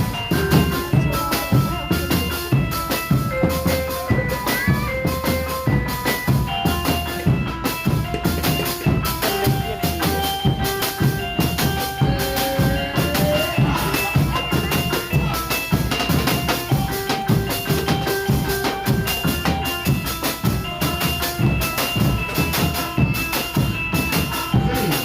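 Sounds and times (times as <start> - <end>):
music with drum beat: 0.0 - 25.0.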